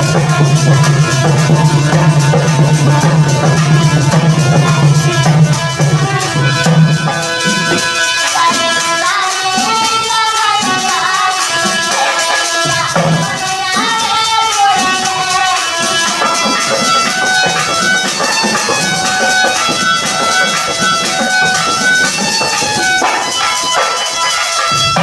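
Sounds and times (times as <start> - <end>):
hand drums: 0.0 - 25.0.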